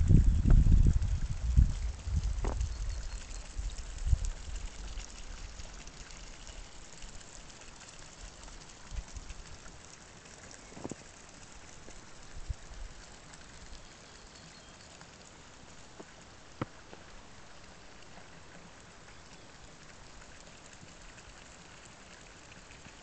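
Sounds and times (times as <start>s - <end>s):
faint outdoor hiss: 0.0s - 23.0s.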